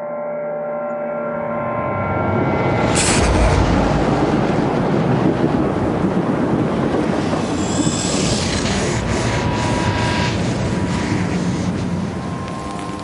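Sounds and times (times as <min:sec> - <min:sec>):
thunder crack and rumble: 0:02.2 - 0:13.0.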